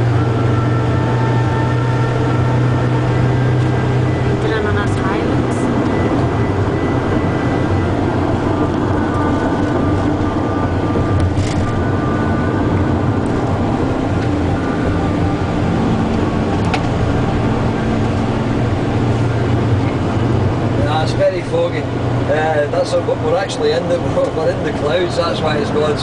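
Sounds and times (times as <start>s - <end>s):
coach engine and road noise: 0.0s - 26.0s.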